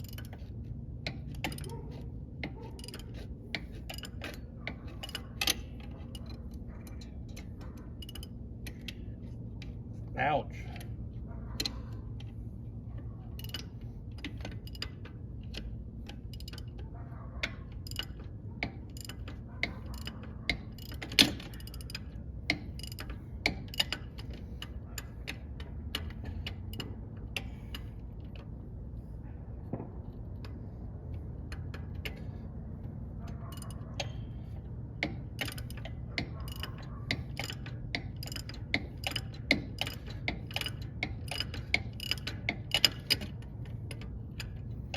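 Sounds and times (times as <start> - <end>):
ratchet wrench clicking: 0.0 - 1.8, 2.4 - 9.1, 13.4 - 16.8, 17.4 - 28.5, 31.4 - 44.9
steady low hum: 0.0 - 44.9.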